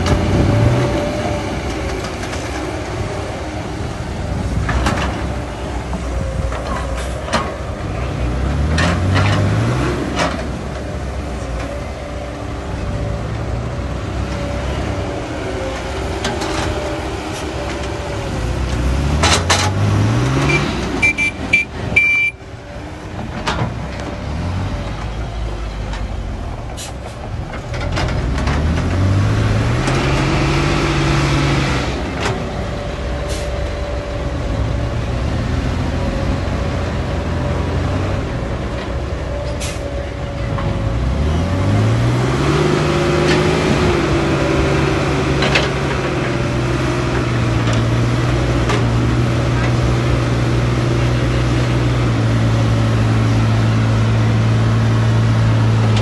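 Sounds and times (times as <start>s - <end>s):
excavator diesel engine revving: 0.0s - 56.0s.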